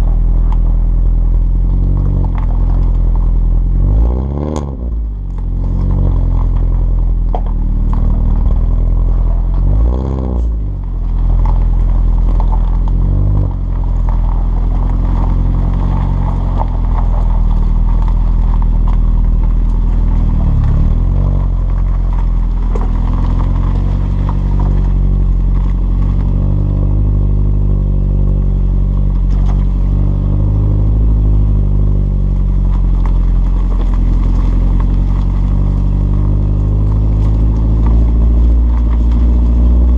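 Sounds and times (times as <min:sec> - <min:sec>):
car exhaust note: 0:00.0 - 0:39.9.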